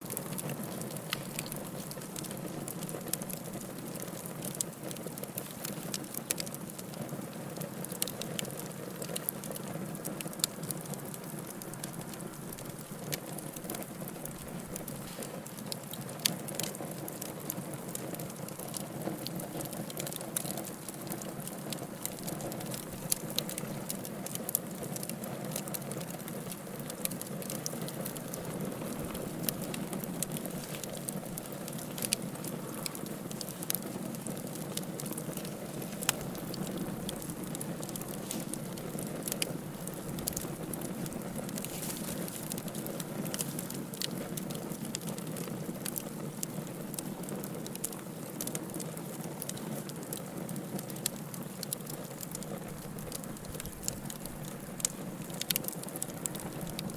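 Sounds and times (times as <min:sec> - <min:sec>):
wood crackling and popping: 0:00.0 - 0:56.9
wood fire burning: 0:00.0 - 0:56.9.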